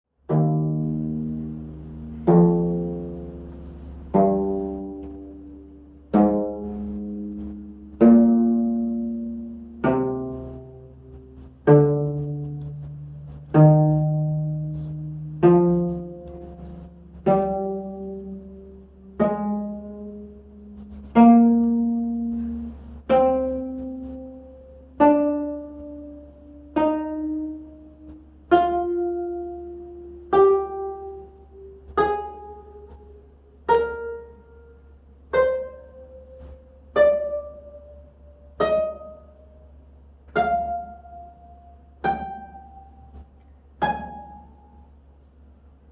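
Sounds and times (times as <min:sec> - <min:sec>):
zither strings plucked: 0:00.2 - 0:45.0.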